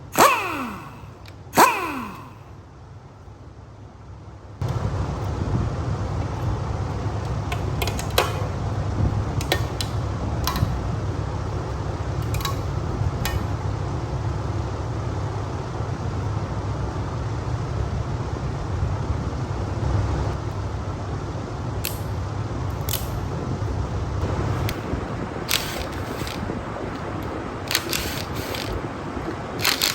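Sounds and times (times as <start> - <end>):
low hum: 0.0 - 29.9.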